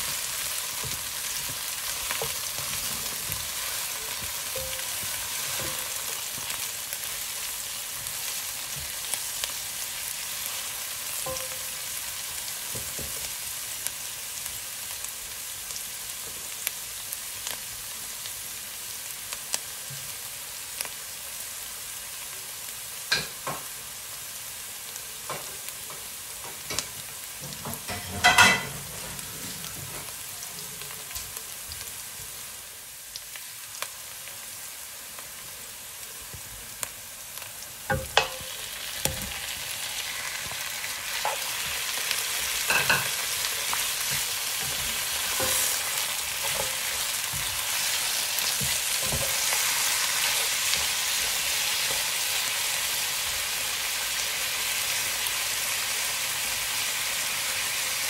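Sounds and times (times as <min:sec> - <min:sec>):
food sizzling in pan: 0:00.0 - 0:58.0.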